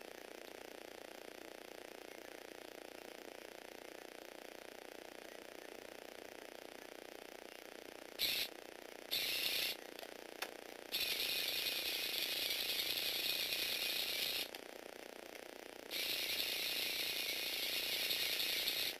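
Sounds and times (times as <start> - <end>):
small motor and gears whirring: 0.0 - 19.0.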